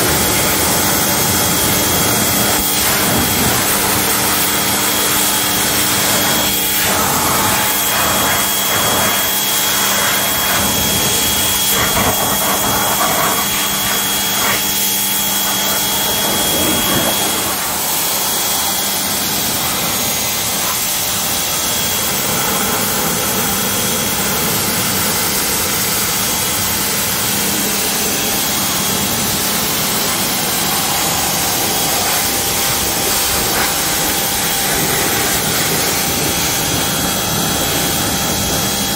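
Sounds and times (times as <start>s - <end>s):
water jet spray hissing: 0.0s - 21.4s, 27.6s - 38.6s
pressure washer motor hum: 0.0s - 38.9s.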